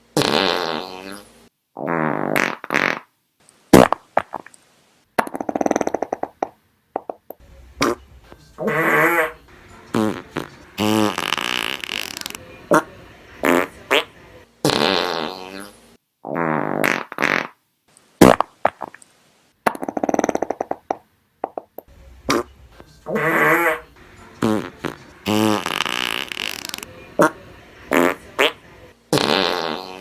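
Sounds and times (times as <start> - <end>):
fart sound effects: 0.2 - 3.1, 3.7 - 4.5, 5.2 - 7.2, 7.8 - 17.6, 18.2 - 19.0, 19.6 - 30.0.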